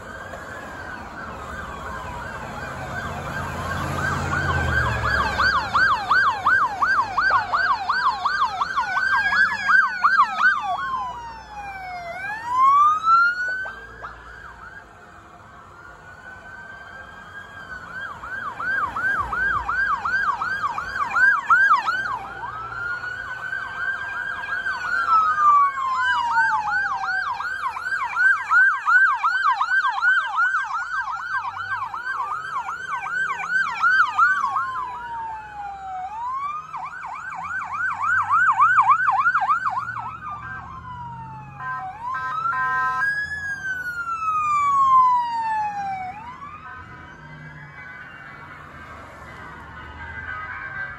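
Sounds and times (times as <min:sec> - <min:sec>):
police sirens wailing and yelping: 0:00.0 - 0:50.9
steady siren tone: 0:00.0 - 0:50.9.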